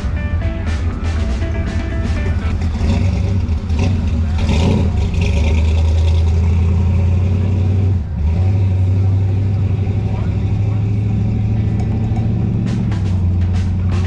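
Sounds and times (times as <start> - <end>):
car engine rumbling: 0.0 - 14.0
music: 0.0 - 14.0.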